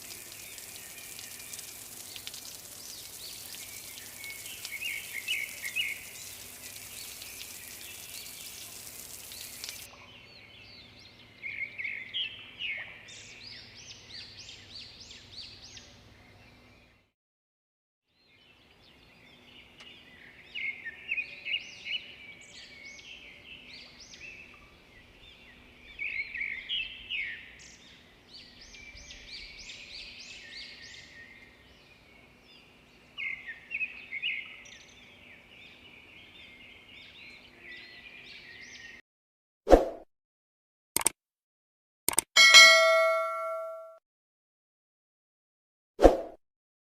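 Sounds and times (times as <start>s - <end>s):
songbirds chirping: 0.0s - 17.1s, 18.2s - 39.0s.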